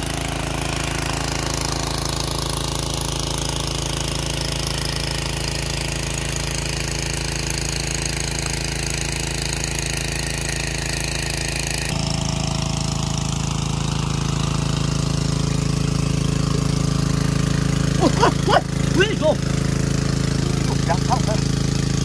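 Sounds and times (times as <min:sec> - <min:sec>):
engine water pump running: 0:00.0 - 0:22.0.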